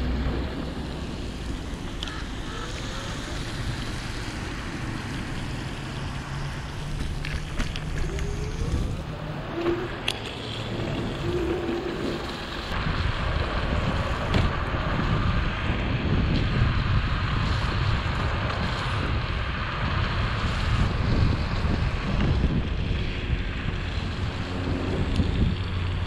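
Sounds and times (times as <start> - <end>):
tyres hissing on wet asphalt: 0.0 - 26.0
wind noise on microphone: 0.0 - 26.0.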